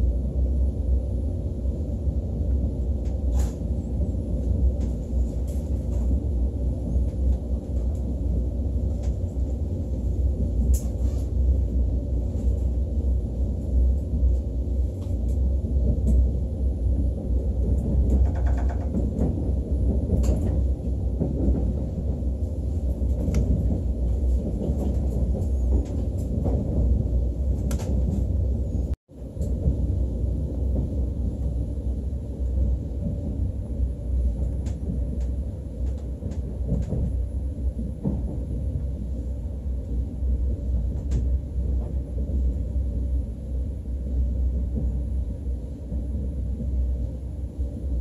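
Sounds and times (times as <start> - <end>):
train rumble inside cabin: 0.0 - 48.0.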